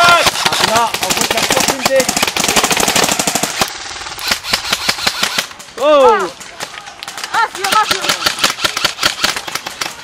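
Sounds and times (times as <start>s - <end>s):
airsoft rifles firing: 0.0s - 5.8s, 6.6s - 10.0s.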